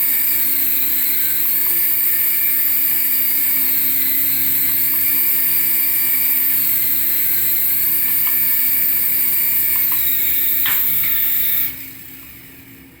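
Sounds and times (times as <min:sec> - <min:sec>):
toy electric motor whining: 0:00.0 - 0:13.0.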